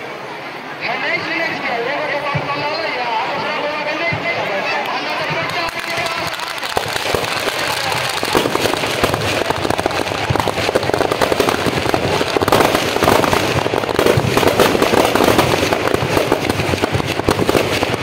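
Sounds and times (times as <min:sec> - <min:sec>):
firecrackers crackling: 0:02.2 - 0:18.0.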